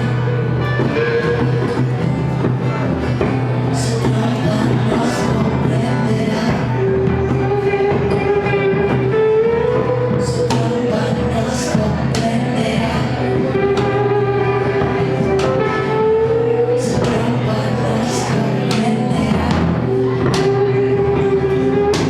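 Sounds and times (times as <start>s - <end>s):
rock band playing: 0.0s - 22.0s
sliding lead guitar notes: 0.0s - 22.0s.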